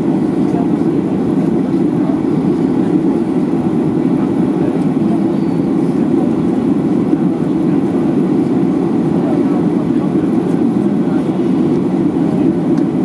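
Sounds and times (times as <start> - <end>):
low airplane cabin rumble: 0.0 - 13.0.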